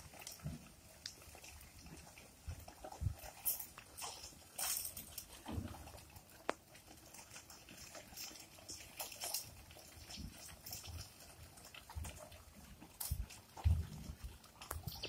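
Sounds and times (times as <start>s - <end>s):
pigeons pecking clicks: 0.0s - 15.0s.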